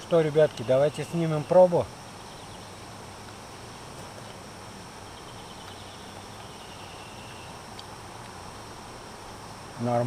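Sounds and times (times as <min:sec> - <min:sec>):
insects chirring: 0:00.0 - 0:10.0
outdoor background hiss: 0:00.0 - 0:10.0.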